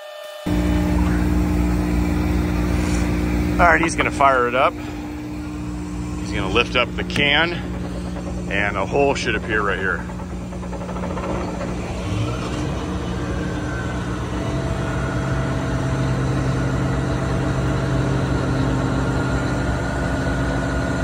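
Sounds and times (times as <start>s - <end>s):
diesel engine running: 0.5s - 21.0s.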